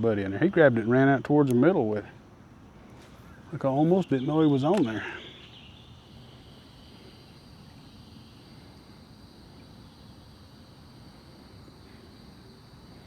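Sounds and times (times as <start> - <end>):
high insect chorus: 0.0 - 13.0
low even hiss: 0.0 - 13.0.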